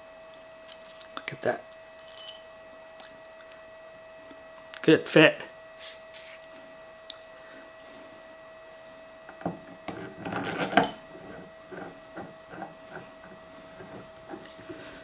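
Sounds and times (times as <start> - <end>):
steady high hum: 0.0 - 15.0.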